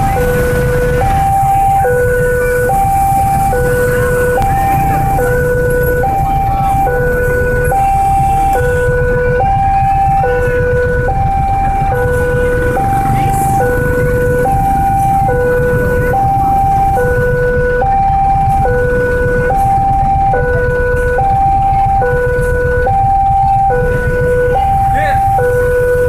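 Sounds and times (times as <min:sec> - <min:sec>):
constant low rumble: 0:00.0 - 0:26.0
two-tone crossing alarm: 0:00.0 - 0:26.0.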